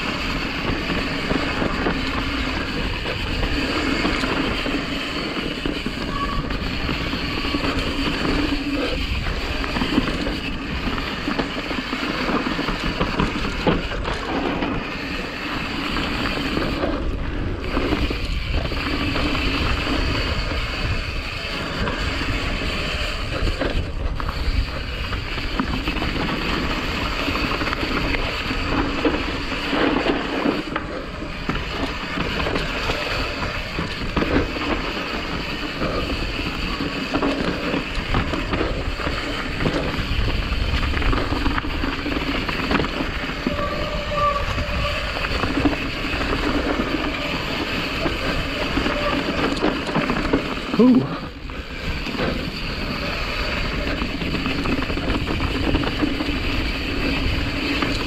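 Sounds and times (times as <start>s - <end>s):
bike chain and frame rattling: 0.0s - 58.0s
bike tyres rolling over dirt: 0.0s - 58.0s
wind rumbling on microphone: 0.0s - 58.0s.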